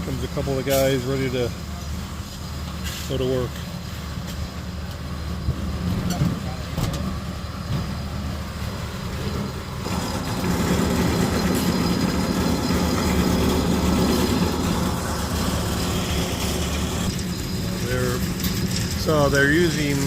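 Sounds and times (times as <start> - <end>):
construction machinery engine running: 0.0 - 20.0.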